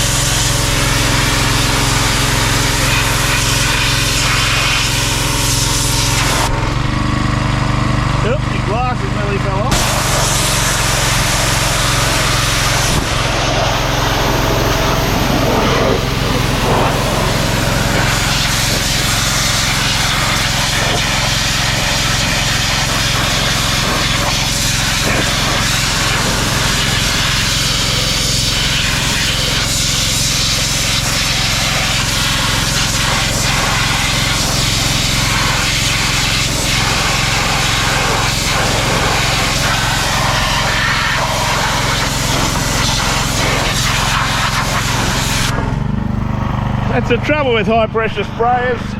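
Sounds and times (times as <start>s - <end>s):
water jet hissing: 0.0s - 6.6s, 9.7s - 45.7s
pressure washer engine humming: 0.0s - 48.9s.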